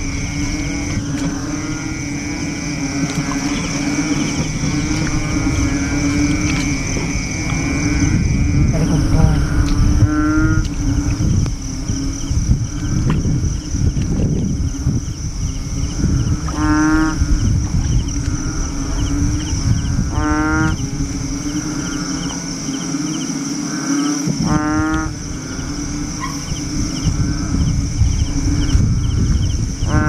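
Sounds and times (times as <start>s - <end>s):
frog calling: 0.0s - 13.8s, 15.4s - 30.0s
night insect chorus: 0.0s - 30.0s.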